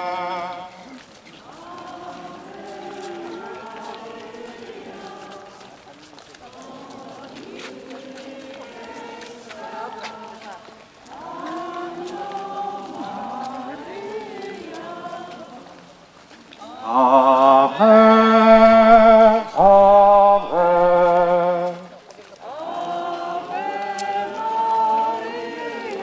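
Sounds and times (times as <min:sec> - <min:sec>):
people singing a hymn unaccompanied: 0:00.0 - 0:26.0.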